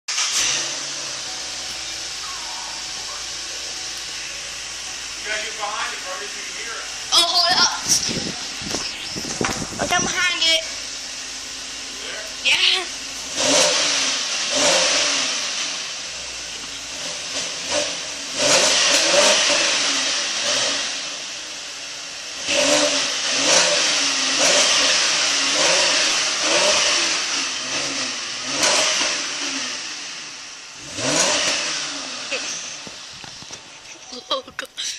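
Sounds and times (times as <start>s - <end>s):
car engine revving: 0.0s - 34.1s
exhaust rushing hiss: 0.1s - 33.9s.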